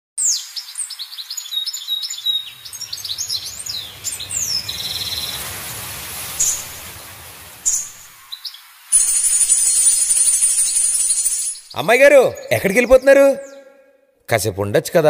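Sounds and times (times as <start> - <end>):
birds chirping and twittering: 0.2 - 13.8.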